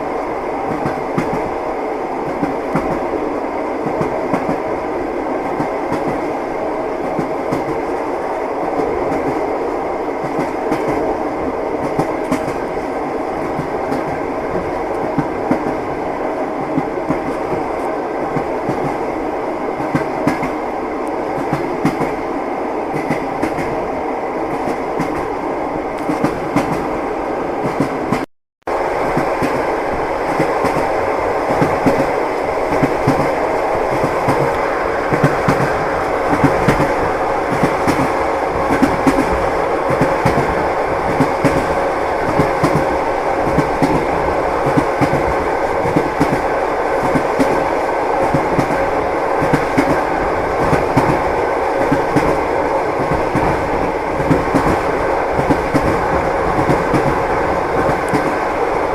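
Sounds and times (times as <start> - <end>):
train wheels clattering on rails: 0.7 - 1.6, 2.2 - 3.1, 3.8 - 4.8, 5.4 - 8.0, 10.2 - 11.2, 11.8 - 16.0, 16.6 - 19.2, 19.8 - 22.3, 22.9 - 23.8, 26.0 - 26.9, 29.0 - 58.9.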